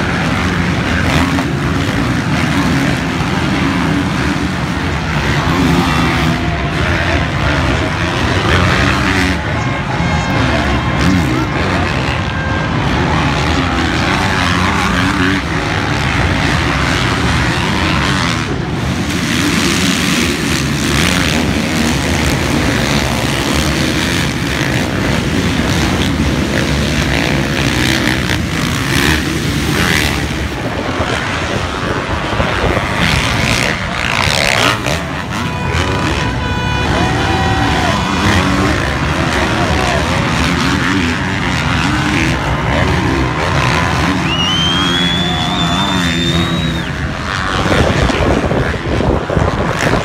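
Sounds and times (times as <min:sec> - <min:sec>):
motocross bikes revving: 0:00.0 - 0:50.0.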